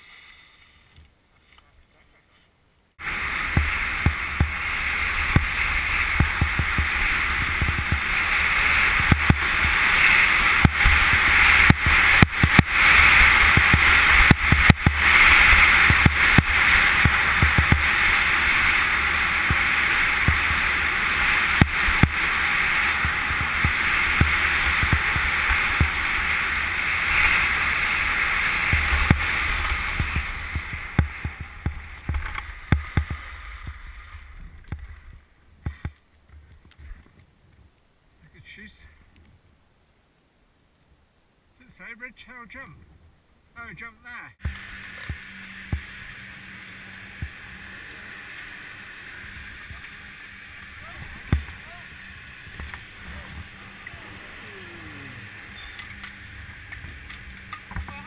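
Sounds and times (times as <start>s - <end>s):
wind and skis on snow: 0.0s - 38.0s, 44.4s - 58.0s.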